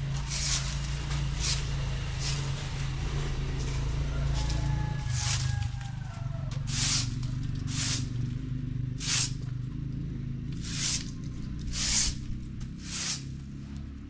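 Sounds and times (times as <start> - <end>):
broom sweeping brick paving: 0.0 - 8.4, 9.0 - 9.5, 10.5 - 13.4.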